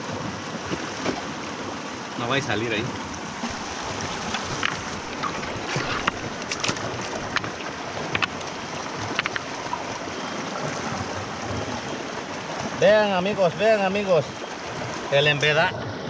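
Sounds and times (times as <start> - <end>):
rushing river water: 0.0 - 16.0.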